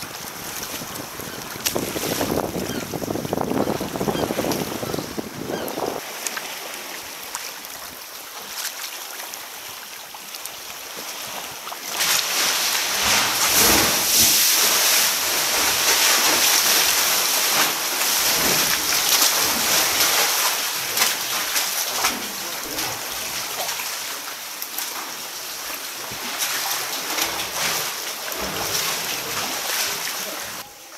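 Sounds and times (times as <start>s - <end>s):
sea water sloshing against kayak: 0.0s - 30.6s
hissing wash of surging water: 3.8s - 30.7s.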